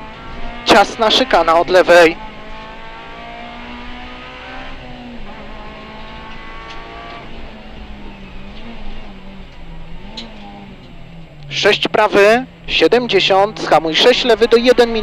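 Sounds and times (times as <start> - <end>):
car engine at speed: 0.0 - 15.0
road and tyre noise: 0.0 - 15.0.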